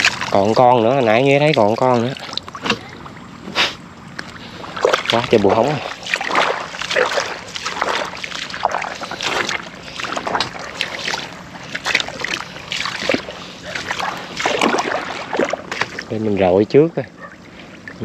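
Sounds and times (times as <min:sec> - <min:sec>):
footsteps squelching in mud: 0:00.0 - 0:16.2.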